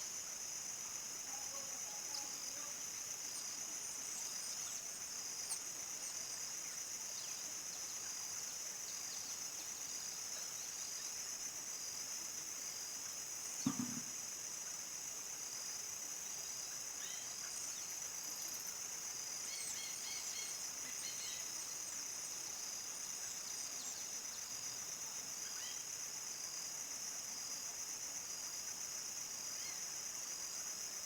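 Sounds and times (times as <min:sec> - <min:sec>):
crickets trilling: 0:00.1 - 0:31.0.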